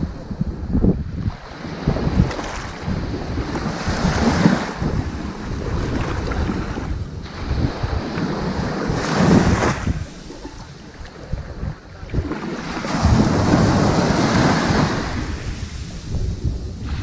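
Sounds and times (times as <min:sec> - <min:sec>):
waves washing up a beach: 0:00.0 - 0:17.0
wind rumble on microphone: 0:00.0 - 0:17.0.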